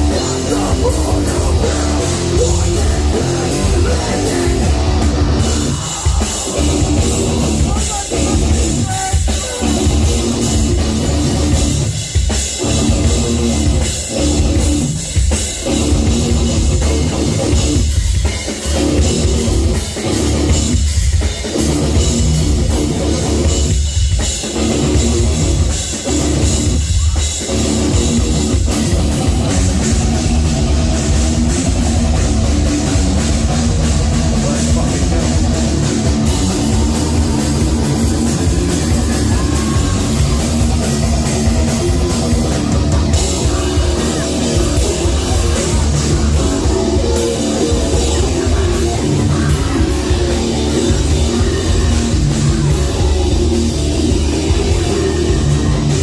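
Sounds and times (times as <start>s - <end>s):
bass guitar: 0.0s - 56.0s
distorted guitars: 0.0s - 56.0s
pounding drum kit: 0.0s - 56.0s.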